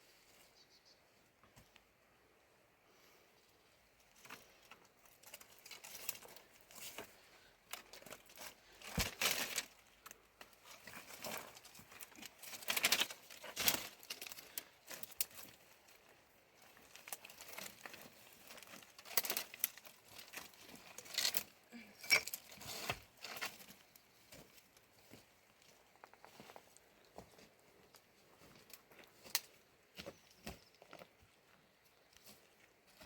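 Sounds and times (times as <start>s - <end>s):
rustling and crinkling: 4.0s - 33.0s.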